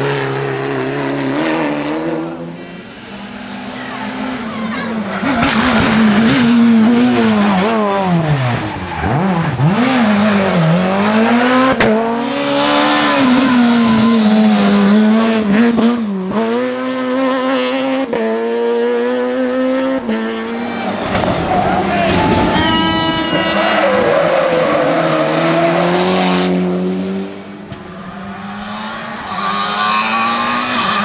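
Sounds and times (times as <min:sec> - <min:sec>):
rally car engines revving hard: 0:00.0 - 0:31.0.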